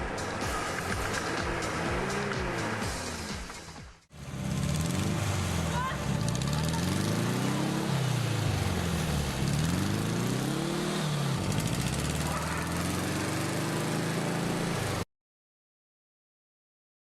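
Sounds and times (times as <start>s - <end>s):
vehicle engine accelerating: 0.0s - 15.0s.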